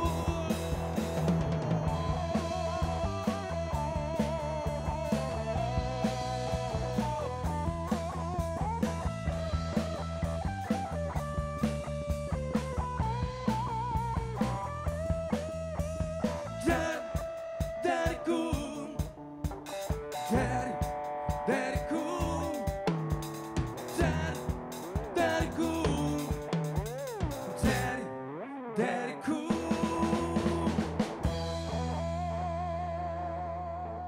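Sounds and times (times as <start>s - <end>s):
electric bass: 0.0s - 17.8s, 18.6s - 20.8s, 22.1s - 28.4s, 29.5s - 34.0s
drum kit beat: 0.0s - 28.0s, 29.5s - 32.3s.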